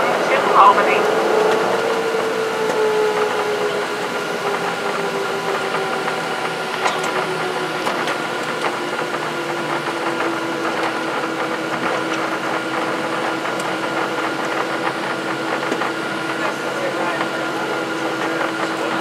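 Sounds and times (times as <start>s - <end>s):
jet engines idling: 0.0s - 19.0s.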